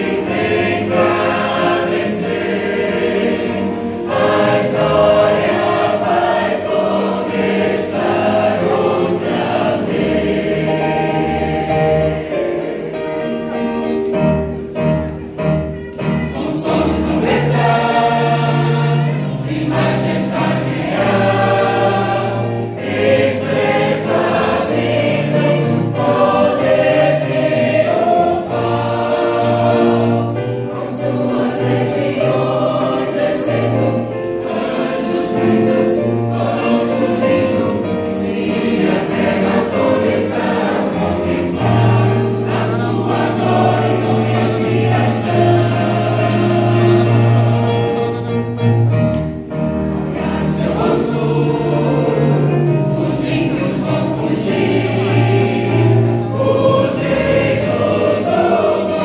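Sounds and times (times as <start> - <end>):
choir singing a hymn: 0.0 - 59.0
steady musical accompaniment: 0.0 - 59.0.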